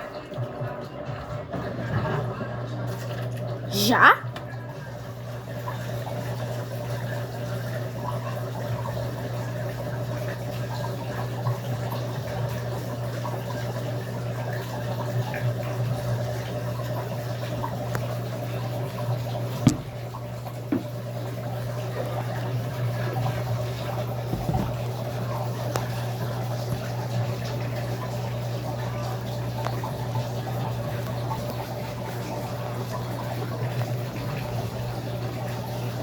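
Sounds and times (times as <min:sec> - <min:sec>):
washing machine filling with water: 0:00.0 - 0:36.0.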